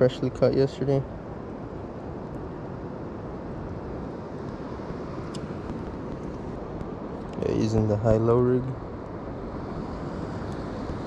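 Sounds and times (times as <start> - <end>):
surf rumble and hiss: 0.0 - 11.0
wind: 0.0 - 11.0.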